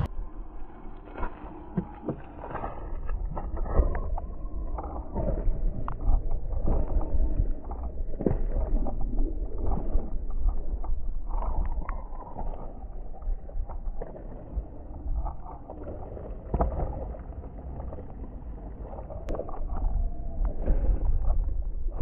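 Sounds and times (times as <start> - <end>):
inline skates rolling on mud: 0.0 - 22.0.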